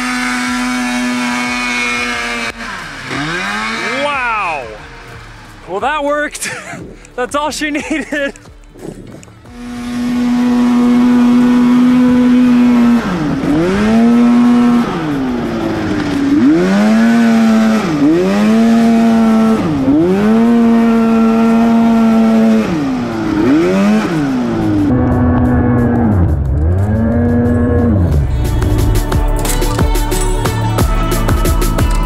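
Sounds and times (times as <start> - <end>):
buggy engine running hard: 0.0 - 32.0.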